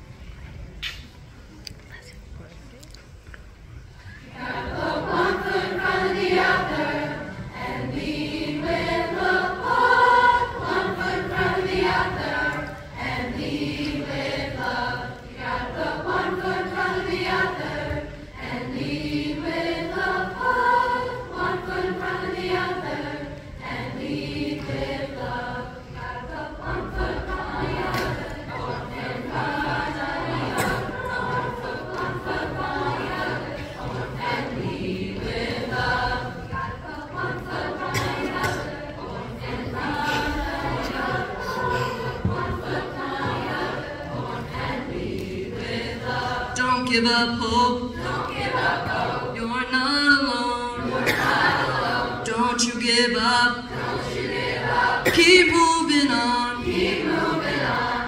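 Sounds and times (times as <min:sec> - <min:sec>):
children's choir singing: 0:04.1 - 0:58.0.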